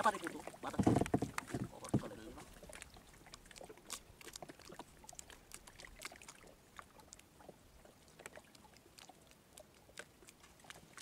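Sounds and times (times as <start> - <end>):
water dripping and lapping: 0.0 - 11.0.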